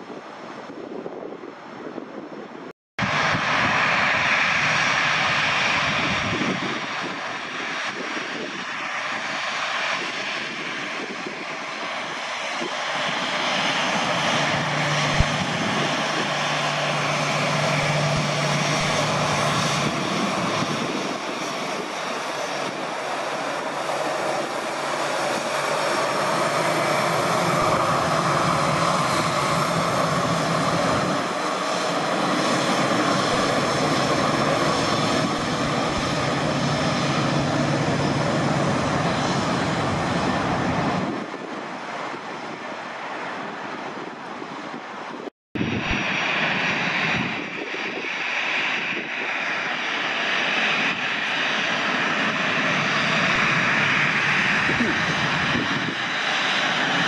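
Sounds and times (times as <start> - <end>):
jet engines running with whine: 0.0 - 57.0.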